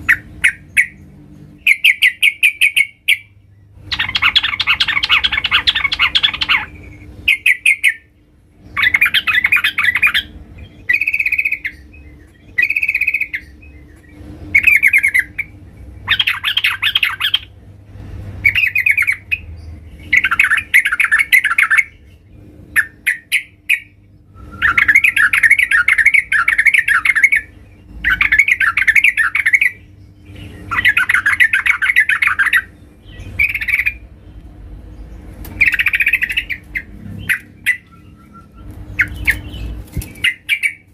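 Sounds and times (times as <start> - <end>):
bulbul chattering calls: 0.0 - 1.0, 1.6 - 17.6, 18.4 - 22.1, 22.7 - 24.0, 24.6 - 34.0, 35.6 - 40.9.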